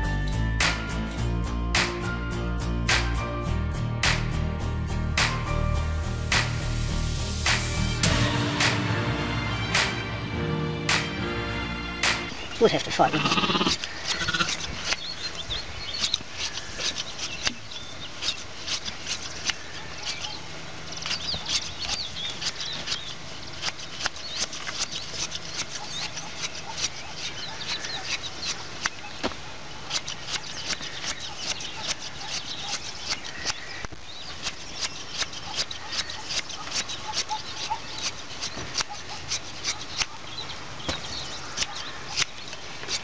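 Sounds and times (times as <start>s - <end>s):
shears snipping fleece: 0.6s - 2.1s, 2.9s - 3.2s, 4.0s - 4.4s, 5.2s - 5.5s, 6.2s - 8.9s, 9.7s - 10.0s, 10.9s - 11.1s, 13.4s - 43.0s.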